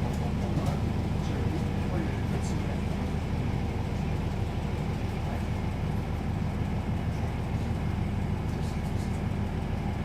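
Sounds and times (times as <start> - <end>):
diesel railcar engine drone: 0.0 - 10.0
train hum in motion: 0.0 - 10.0.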